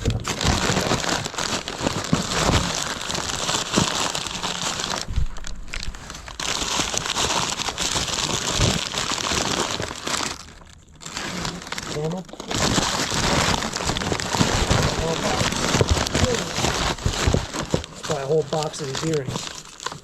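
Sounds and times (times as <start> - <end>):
wrapping crumpled and rustled: 0.0 - 20.0.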